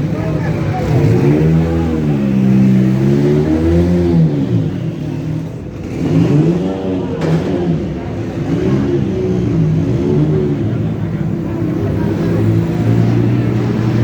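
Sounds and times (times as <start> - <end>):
sports car engines revving: 0.0 - 14.0.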